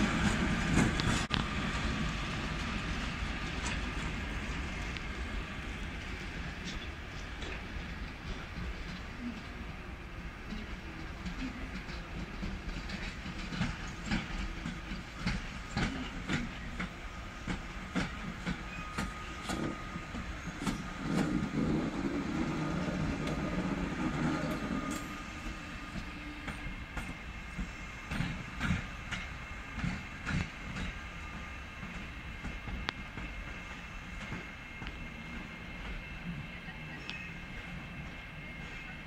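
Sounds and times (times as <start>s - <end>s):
train wheels clicking over rail joints: 0.0s - 9.2s, 10.4s - 36.0s
locomotive low hum: 0.0s - 39.0s.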